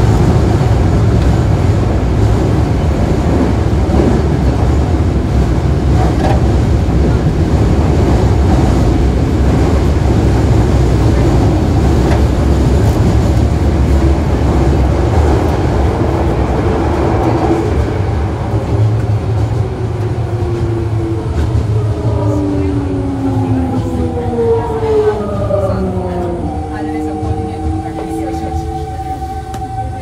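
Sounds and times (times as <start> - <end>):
subway car wheels rumbling: 0.0 - 30.0.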